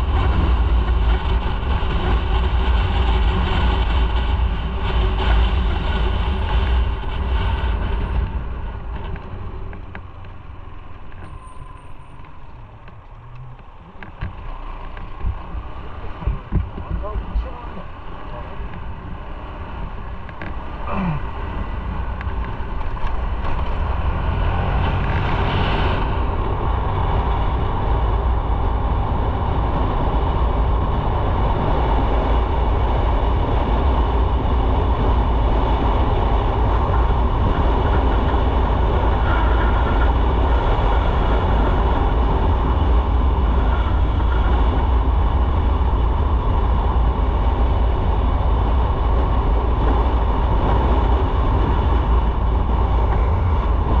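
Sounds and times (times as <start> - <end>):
motorcycle engine rumble: 0.0 - 54.0
road and wind noise: 0.0 - 54.0.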